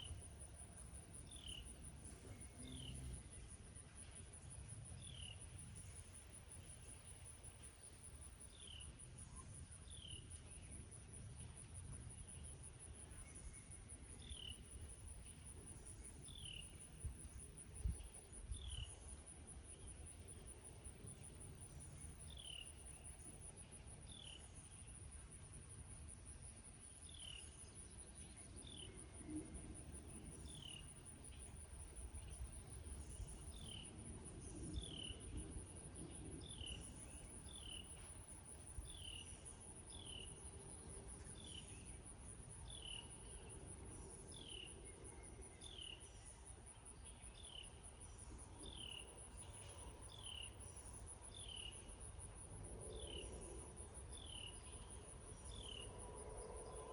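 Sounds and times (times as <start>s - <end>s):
crickets trilling: 0.0s - 3.6s, 12.2s - 25.0s, 25.7s - 56.9s.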